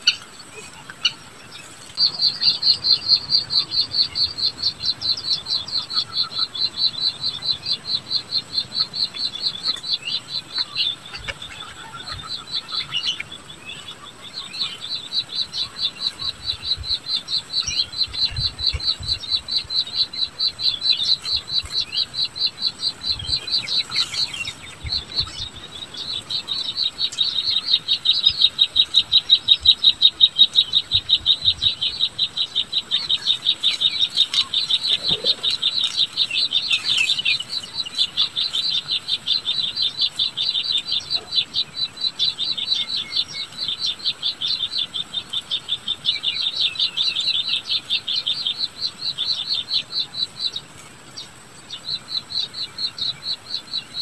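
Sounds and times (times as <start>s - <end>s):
high-pitched pulsed chirping: 0.0s - 50.6s.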